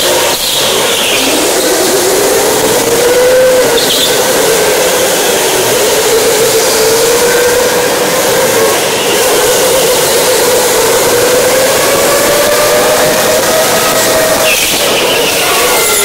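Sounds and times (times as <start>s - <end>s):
go-kart motor whining: 0.0s - 16.0s.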